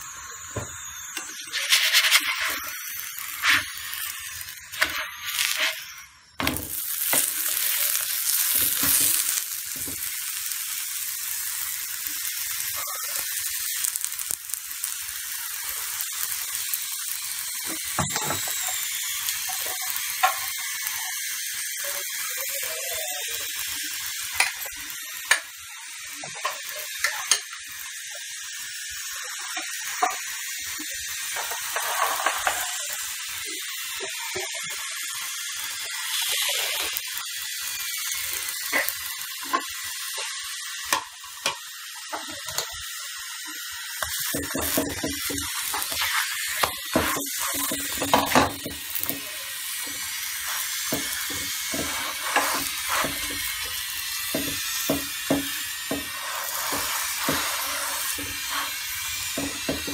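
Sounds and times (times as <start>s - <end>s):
oil sizzling in a pan: 0.0s - 59.9s
oil popping and crackling: 1.2s - 28.4s, 29.3s - 59.9s.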